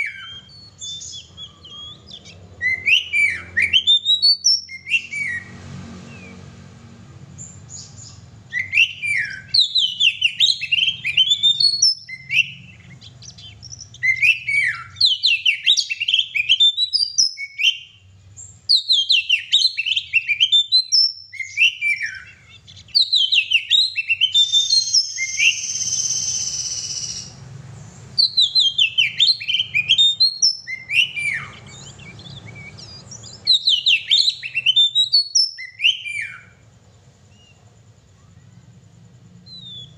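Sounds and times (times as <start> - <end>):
bird singing whistles and chirps: 0.0 - 6.5, 7.4 - 36.6, 37.3 - 37.6, 39.4 - 39.9.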